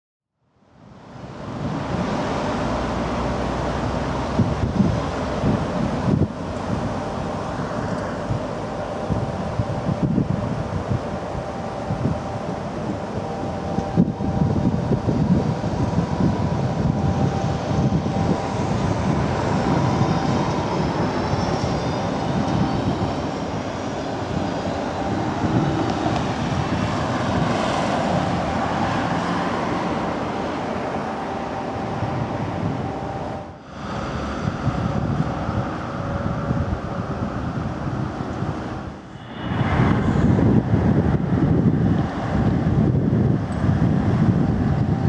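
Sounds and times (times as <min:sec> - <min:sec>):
road traffic: 0:00.4 - 0:45.0
tram rumbling on tracks: 0:00.6 - 0:45.0.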